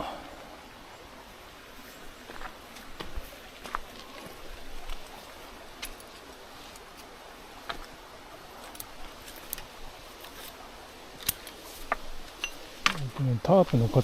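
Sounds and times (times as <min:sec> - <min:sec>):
mountain stream running: 0:00.0 - 0:14.0.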